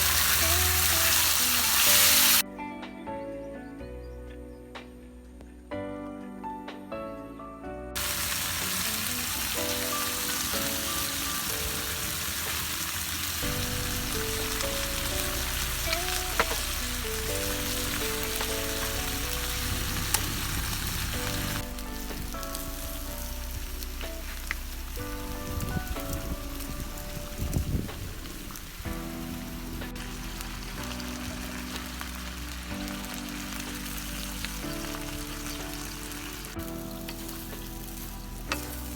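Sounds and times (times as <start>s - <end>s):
vegetables sizzling in a pan: 0.0s - 2.4s, 8.0s - 38.9s
soft background music: 0.0s - 38.9s.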